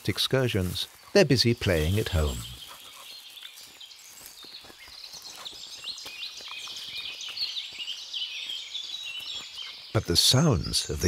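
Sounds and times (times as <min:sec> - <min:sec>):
soft ticks and rustles: 0:00.0 - 0:09.8
songbirds chirping and trilling: 0:00.0 - 0:11.0.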